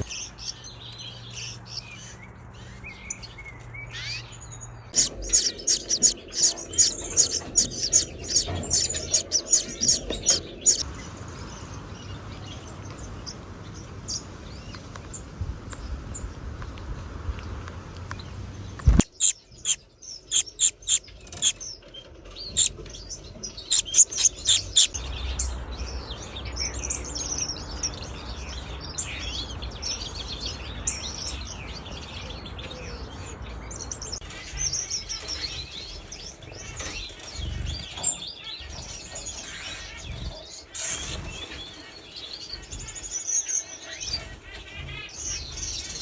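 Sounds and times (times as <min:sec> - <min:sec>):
finches chirping and twittering: 0:00.0 - 0:13.4, 0:18.8 - 0:46.0.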